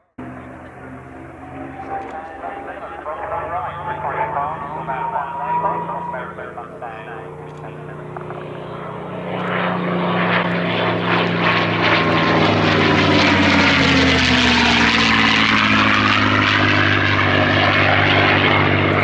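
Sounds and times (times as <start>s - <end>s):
propeller plane engine flypast: 0.0s - 19.0s.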